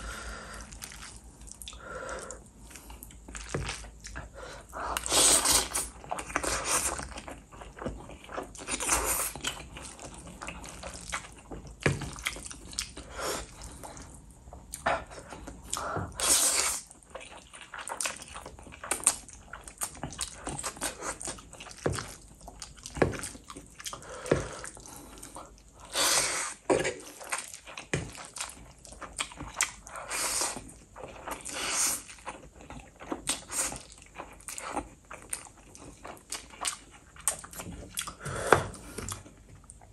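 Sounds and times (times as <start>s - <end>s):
wet chewing: 0.6s - 39.9s.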